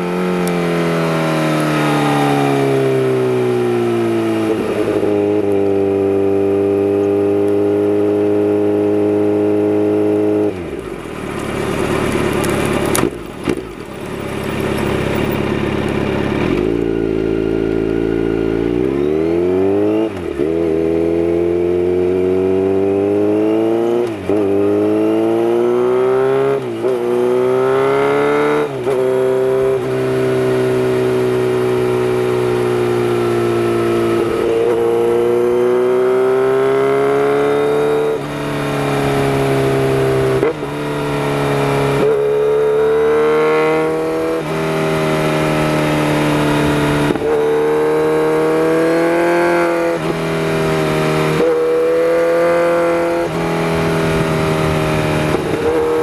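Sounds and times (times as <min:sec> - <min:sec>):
motorcycle engine under load: 0:00.0 - 0:56.0.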